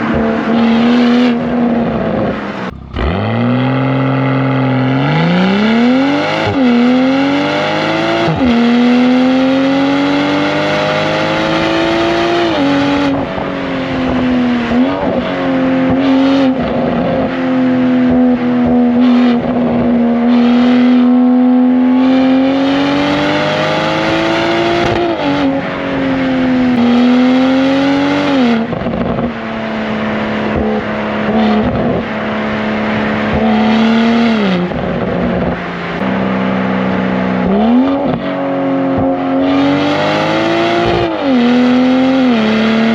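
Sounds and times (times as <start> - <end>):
car engine accelerating: 0.0 - 42.9.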